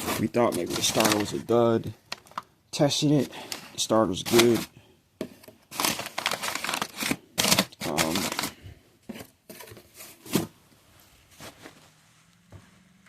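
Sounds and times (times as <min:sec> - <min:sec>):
rustling and crinkling packaging: 0:00.0 - 0:04.7, 0:05.3 - 0:12.0.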